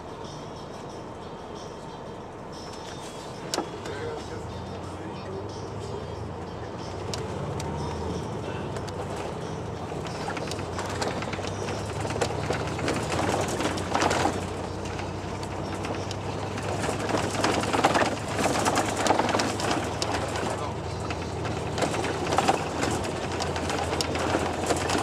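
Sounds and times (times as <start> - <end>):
car engine and road hum: 0.0 - 25.0.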